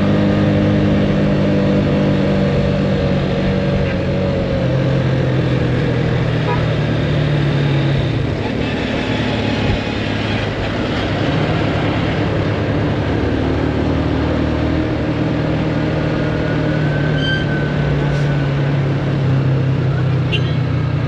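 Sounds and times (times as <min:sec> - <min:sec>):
motorcycle engine humming: 0:00.0 - 0:21.0.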